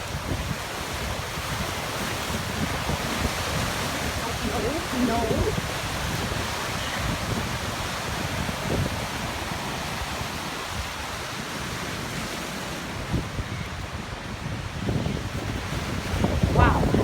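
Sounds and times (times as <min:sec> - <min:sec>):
waves breaking on shore: 0:00.0 - 0:17.0
wind gusts on microphone: 0:00.0 - 0:17.0.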